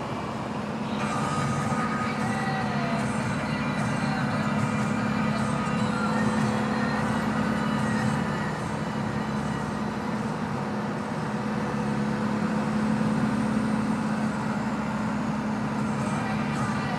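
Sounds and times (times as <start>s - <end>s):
turbo-diesel engine running: 0.0s - 16.9s.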